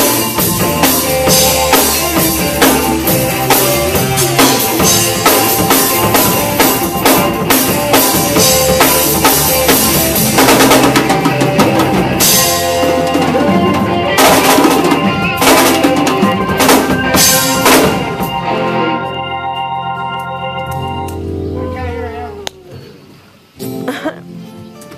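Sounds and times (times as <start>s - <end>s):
held keyboard chord: 0.0s - 22.1s
live band playing loudly: 0.0s - 22.8s.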